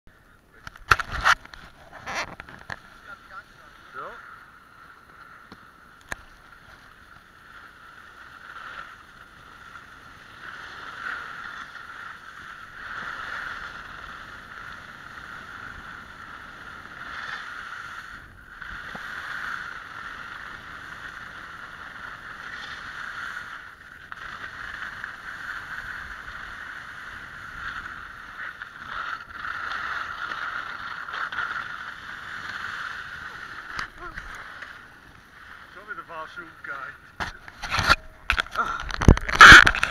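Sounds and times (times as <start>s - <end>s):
snowboard carving over packed snow: 0.9s - 39.9s.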